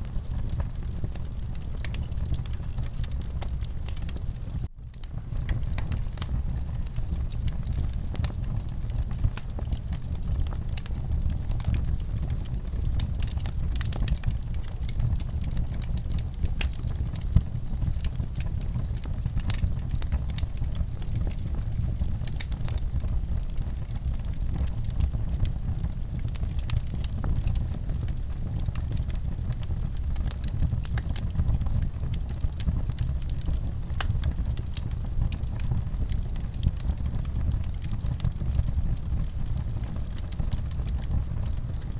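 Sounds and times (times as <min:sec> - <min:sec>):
fire crackling and popping: 0:00.0 - 0:41.9
low fire rumble: 0:00.0 - 0:41.9.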